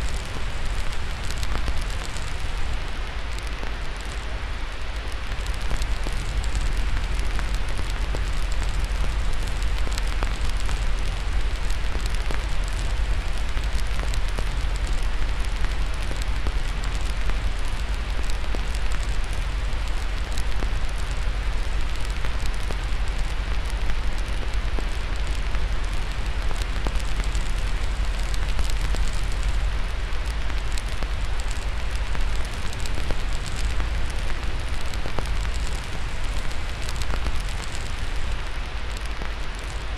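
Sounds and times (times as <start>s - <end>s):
steady white noise: 0.0s - 39.9s
wood fire crackling: 0.0s - 39.9s.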